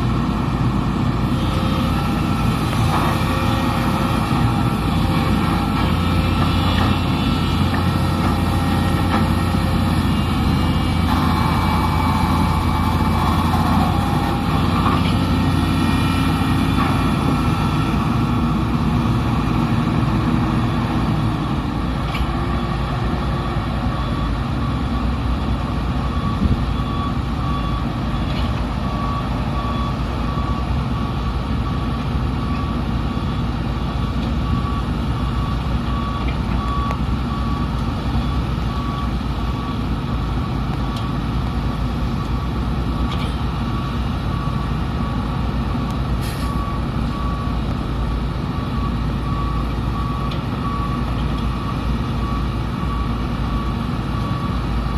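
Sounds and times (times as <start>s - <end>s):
heavy diesel engines running: 0.0s - 54.9s
reversing alarm beeping: 1.3s - 54.9s.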